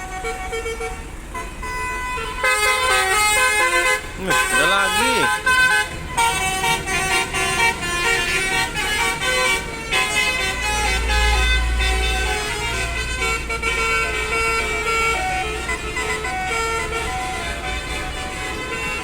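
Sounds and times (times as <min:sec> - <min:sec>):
bus engine rumble: 0:00.0 - 0:19.0
musical bus horn melody: 0:00.0 - 0:19.0.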